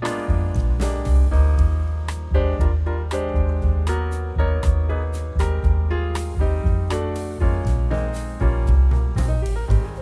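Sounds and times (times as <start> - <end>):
piano chords: 0.0 - 10.0
steady bass beat: 0.0 - 10.0.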